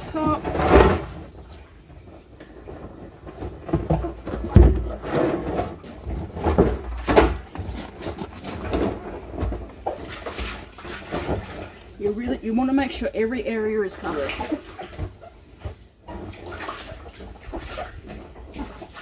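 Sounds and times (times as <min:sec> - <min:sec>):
hands rubbing plastic drum: 0:00.0 - 0:18.9.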